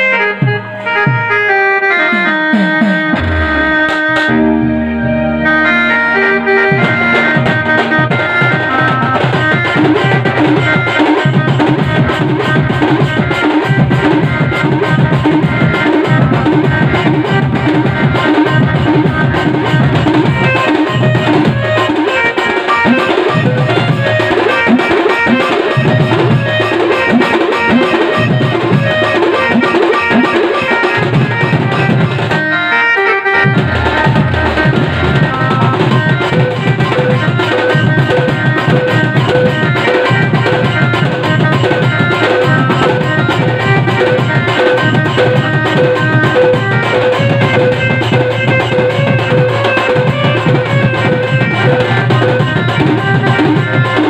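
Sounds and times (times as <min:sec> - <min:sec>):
band playing dance music: 0:00.0 - 0:54.0.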